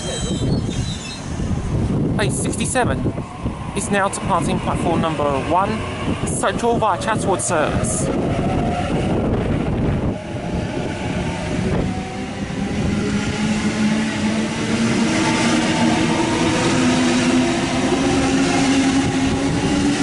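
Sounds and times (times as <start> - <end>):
electric train whine: 0.0 - 20.0
wheels rumbling on rails: 0.0 - 20.0.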